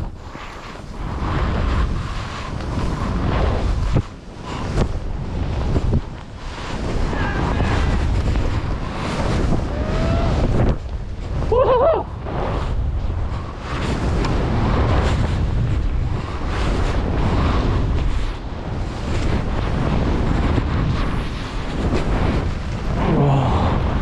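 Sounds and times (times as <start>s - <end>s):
wind rushing over microphone: 0.0s - 24.0s
skis hissing through snow: 0.2s - 22.9s.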